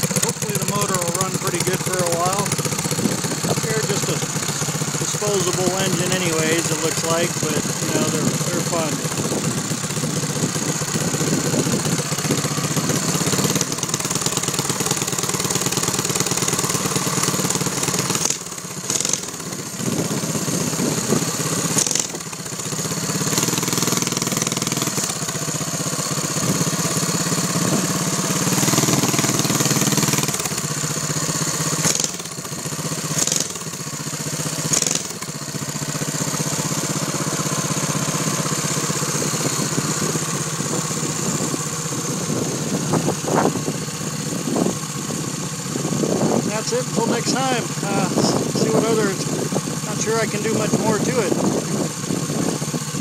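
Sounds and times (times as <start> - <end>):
small engine idling: 0.0 - 53.0.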